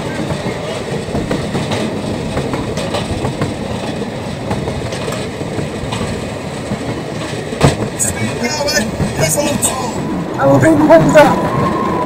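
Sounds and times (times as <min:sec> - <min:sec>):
wagon wheels rumbling on rails: 0:00.0 - 0:12.0.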